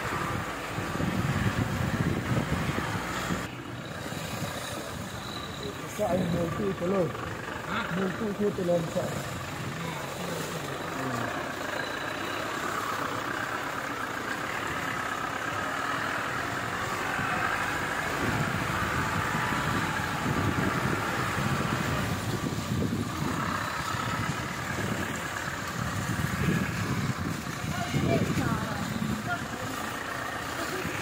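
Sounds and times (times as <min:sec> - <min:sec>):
tyres on muddy dirt road: 0:00.0 - 0:31.0
vehicle engine running: 0:00.0 - 0:31.0.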